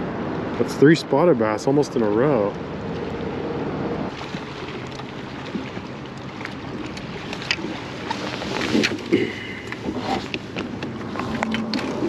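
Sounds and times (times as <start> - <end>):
traffic rumbling on overhead bridge: 0.0 - 12.0.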